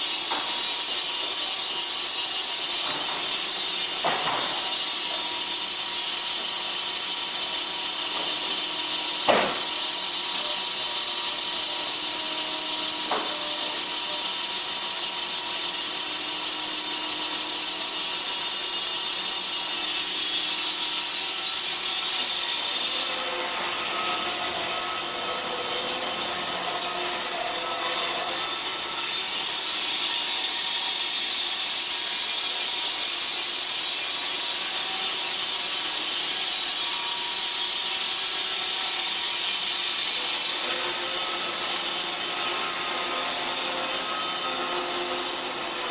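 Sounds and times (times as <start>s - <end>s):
band saw mill running: 0.0s - 45.9s.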